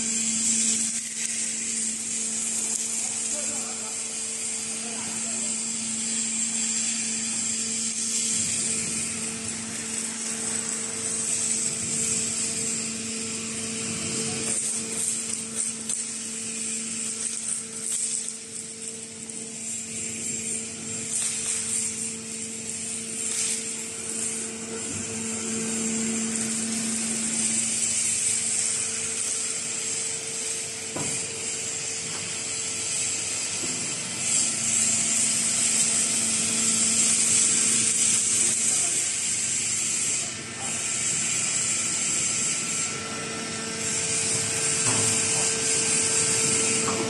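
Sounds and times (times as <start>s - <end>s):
pump motor hum: 0.0s - 47.0s.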